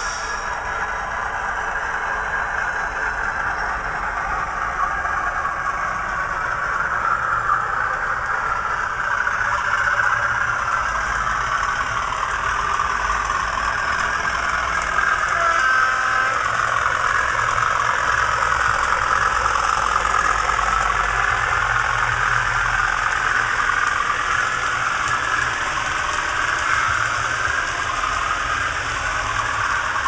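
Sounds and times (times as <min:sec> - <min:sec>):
diesel locomotive engine through speaker: 0:00.0 - 0:30.0.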